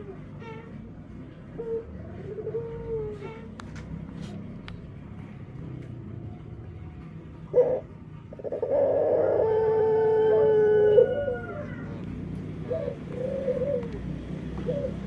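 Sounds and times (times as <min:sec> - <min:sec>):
dove cooing: 0:00.0 - 0:04.6, 0:07.4 - 0:15.0.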